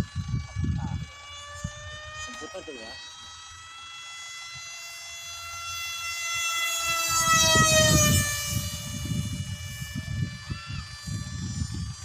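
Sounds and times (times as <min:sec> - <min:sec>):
electric motor whining: 0:00.0 - 0:12.0
low rumbling noise: 0:00.0 - 0:12.0.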